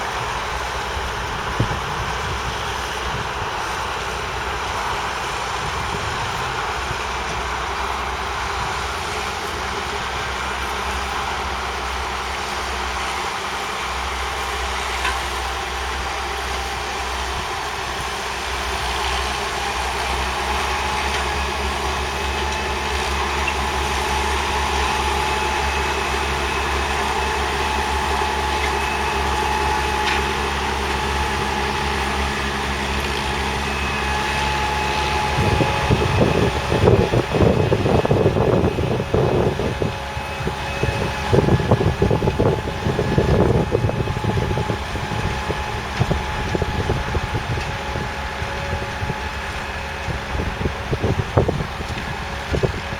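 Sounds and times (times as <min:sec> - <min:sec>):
diesel engine running: 0:00.0 - 0:52.9
wind buffeting microphone: 0:00.0 - 0:52.9.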